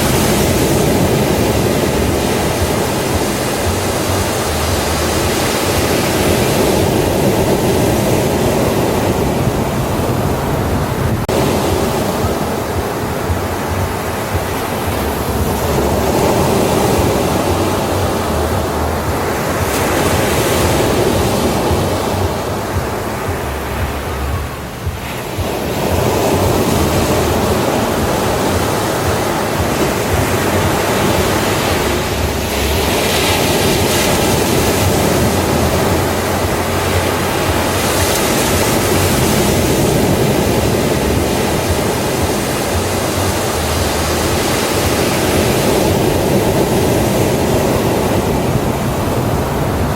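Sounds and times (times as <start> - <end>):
ocean surf on a beach: 0.0 - 49.9.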